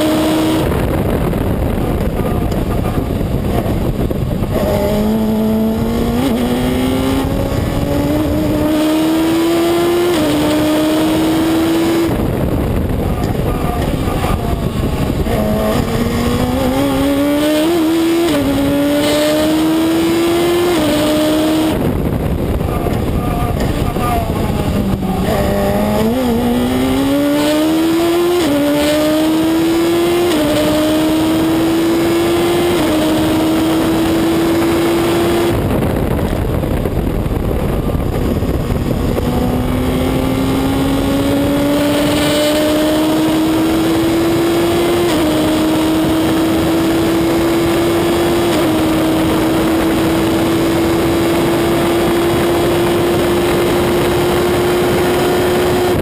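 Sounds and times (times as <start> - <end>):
racing car engine accelerating: 0.0 - 56.0.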